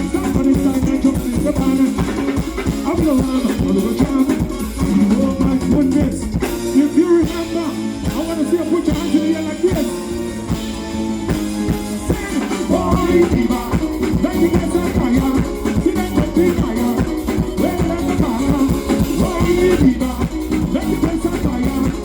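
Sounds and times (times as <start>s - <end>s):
live band music: 0.0s - 22.0s
melodic lead line: 0.0s - 22.0s
steady drum beat: 0.0s - 22.0s.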